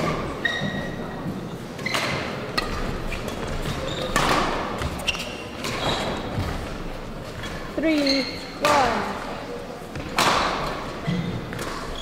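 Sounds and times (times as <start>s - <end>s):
shoes squeaking on court floor: 0.0s - 9.0s, 11.0s - 12.0s.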